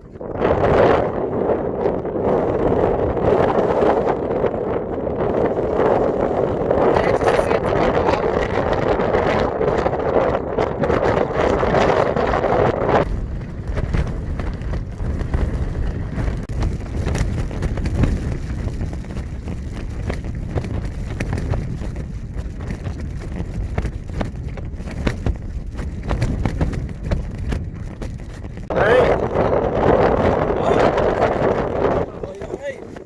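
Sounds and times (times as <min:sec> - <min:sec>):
storm wind buffeting microphone: 0:00.0 - 0:33.0.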